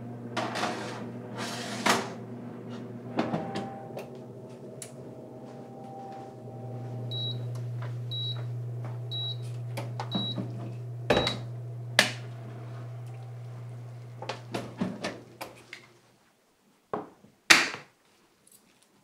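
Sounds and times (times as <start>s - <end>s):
oven humming: 0.0s - 16.0s.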